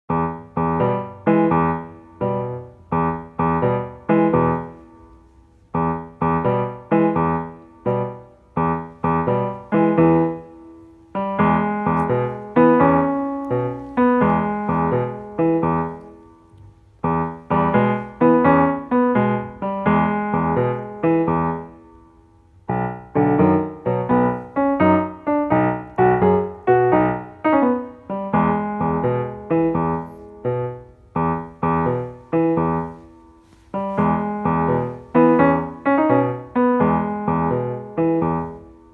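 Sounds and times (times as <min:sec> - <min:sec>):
piano melody: 0:00.0 - 0:38.9.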